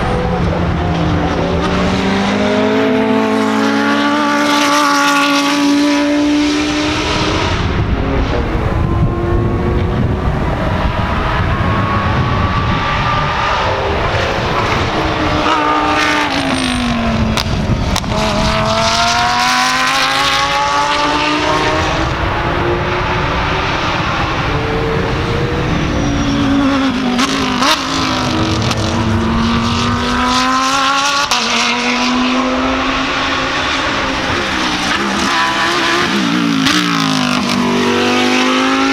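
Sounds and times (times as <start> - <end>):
cars revving: 0.0 - 38.9
race car engines slowing and accelerating: 0.0 - 38.9.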